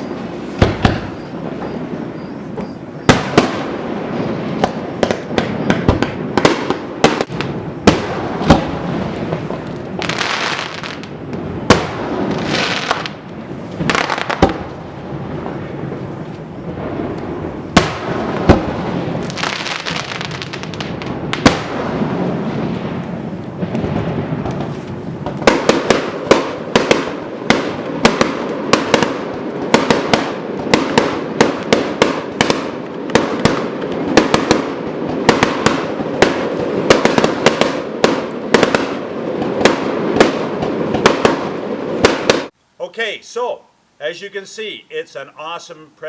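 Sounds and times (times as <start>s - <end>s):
fireworks bangs: 0.0s - 42.6s
fireworks crackling hiss: 0.0s - 46.0s.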